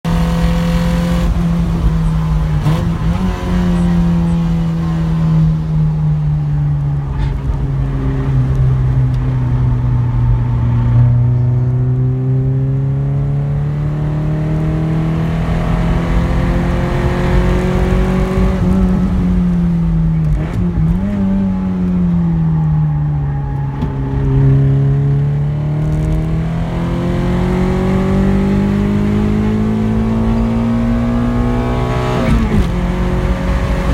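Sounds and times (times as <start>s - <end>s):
car engine running hard: 0.0s - 33.9s.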